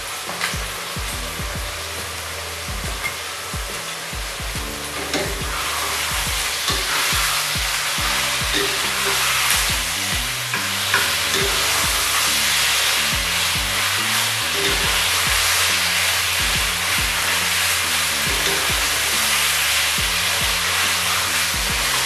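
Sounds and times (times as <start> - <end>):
background music with steady beat: 0.0 - 22.0
chicken sizzling in oil: 0.0 - 22.0.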